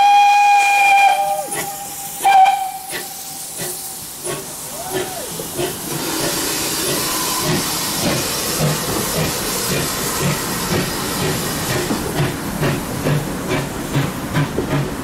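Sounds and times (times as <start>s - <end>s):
loud steam hiss: 0.0s - 15.0s.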